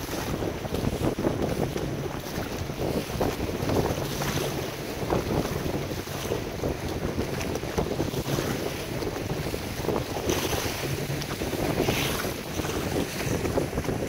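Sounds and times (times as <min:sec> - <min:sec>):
water rushing and splashing: 0:00.0 - 0:14.0
wind buffeting microphone: 0:00.0 - 0:14.0.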